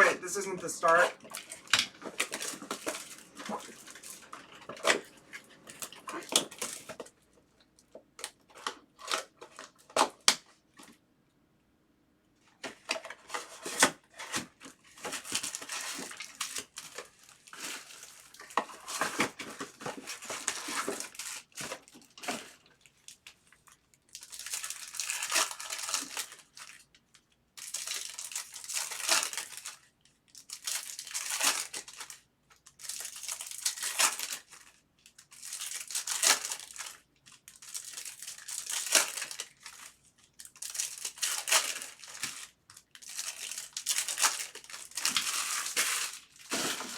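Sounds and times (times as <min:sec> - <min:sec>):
wrappers crinkling and tearing: 0:00.0 - 0:07.1, 0:12.6 - 0:46.9.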